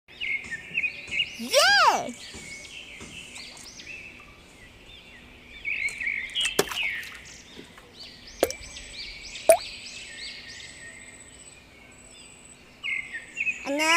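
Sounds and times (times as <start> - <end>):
small birds chirping: 0.1 - 13.9.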